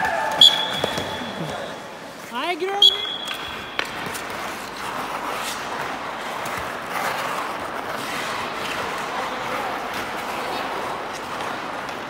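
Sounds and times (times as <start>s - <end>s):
skate blades scraping ice: 2.1s - 12.0s.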